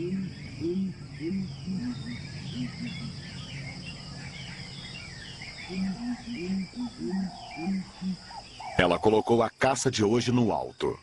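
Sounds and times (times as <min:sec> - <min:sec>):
birds chirping: 0:00.0 - 0:11.0
crickets trilling: 0:00.0 - 0:11.0.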